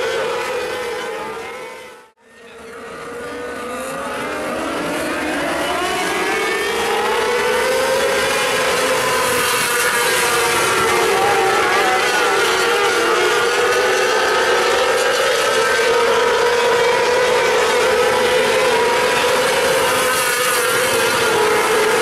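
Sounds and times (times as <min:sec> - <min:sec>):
racing car engines running hard: 0:00.0 - 0:22.0.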